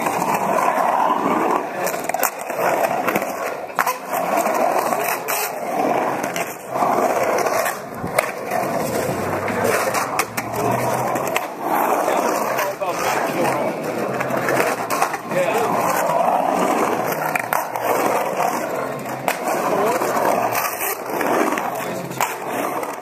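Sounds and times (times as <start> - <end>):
skateboard wheels rolling on concrete: 0.0 - 23.0.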